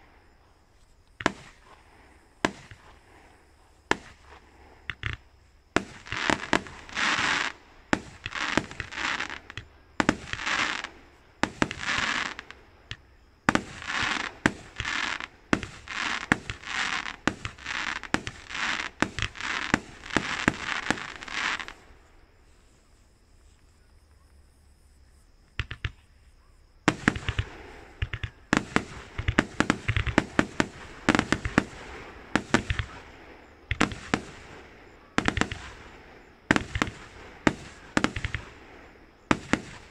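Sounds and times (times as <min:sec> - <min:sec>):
fireworks bangs: 0:01.1 - 0:22.2, 0:26.8 - 0:39.9.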